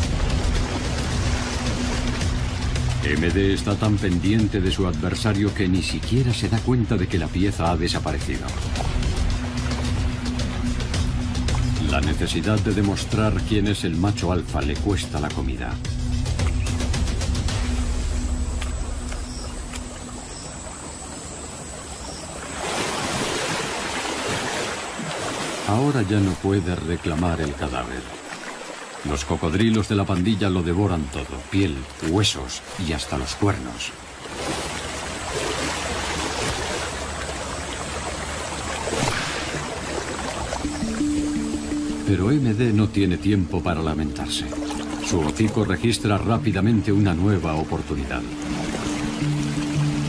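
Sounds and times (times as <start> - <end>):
river water rushing and splashing: 0.0 - 50.0.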